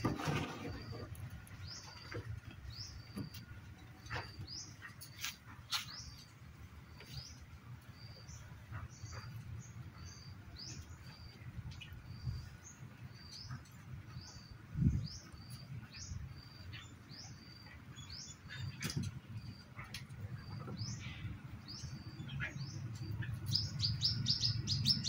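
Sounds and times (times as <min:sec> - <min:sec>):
small birds chirping: 0:00.6 - 0:25.0.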